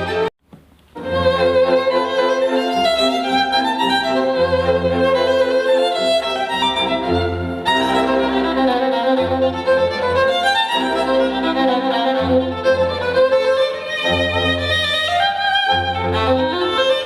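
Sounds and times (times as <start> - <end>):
violin music over bass line: 0.0 - 0.3, 1.0 - 17.0.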